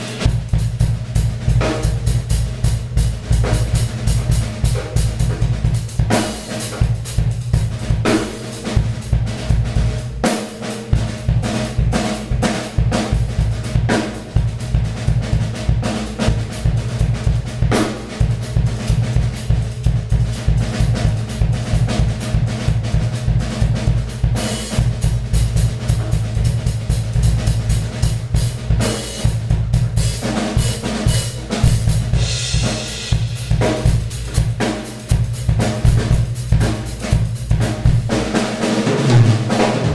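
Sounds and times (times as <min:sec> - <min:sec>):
bass drum strokes: 0:00.0 - 0:39.9.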